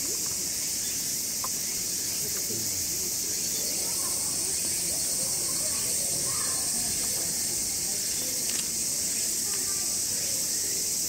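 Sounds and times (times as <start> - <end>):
faint voices murmuring: 0.0 - 11.0
insects chorus: 0.0 - 11.0.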